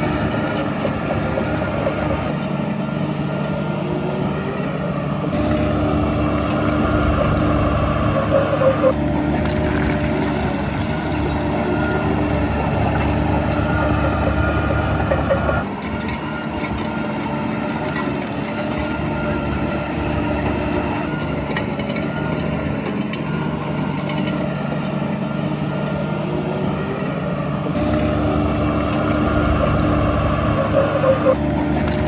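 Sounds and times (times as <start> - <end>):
heavy diesel engine rumbling: 0.0 - 32.0.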